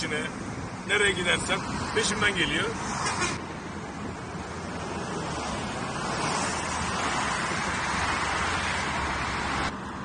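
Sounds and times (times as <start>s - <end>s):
tyres hissing on wet road: 0.5s - 3.6s, 4.7s - 9.7s.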